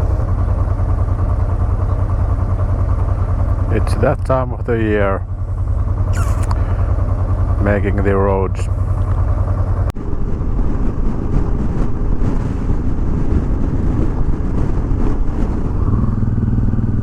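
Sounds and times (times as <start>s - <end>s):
motorcycle engine rumble: 0.0s - 17.0s
wind rushing over microphone: 0.0s - 17.0s.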